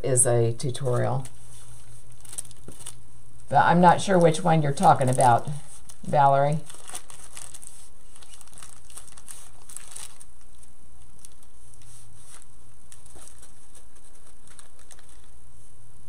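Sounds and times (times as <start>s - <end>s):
steady low hum: 0.0s - 16.0s
stems crinkling: 0.8s - 3.5s, 4.1s - 15.7s.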